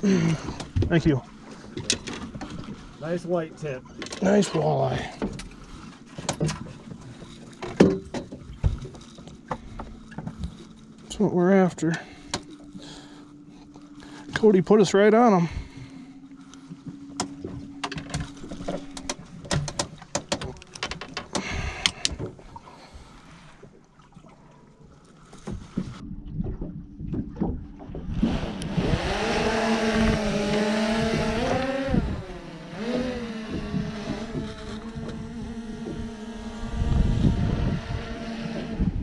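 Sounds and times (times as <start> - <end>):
gear clattering on boat: 0.0 - 39.0
outboard motor running: 0.0 - 39.0.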